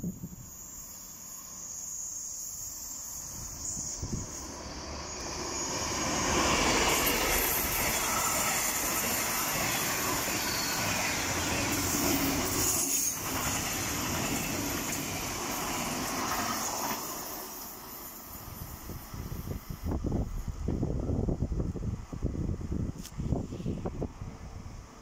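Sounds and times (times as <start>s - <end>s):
diesel locomotive passing: 0.2s - 22.8s.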